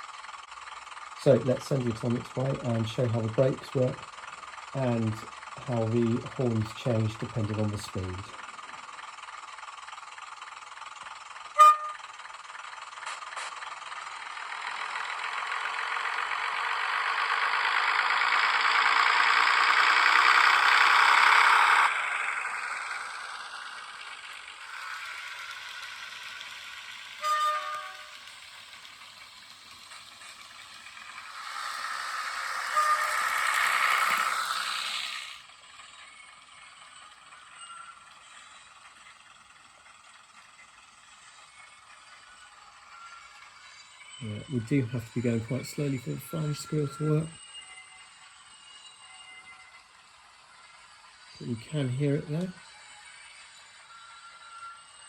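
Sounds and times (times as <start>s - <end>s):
model train diesel engine sound: 0.0s - 55.0s.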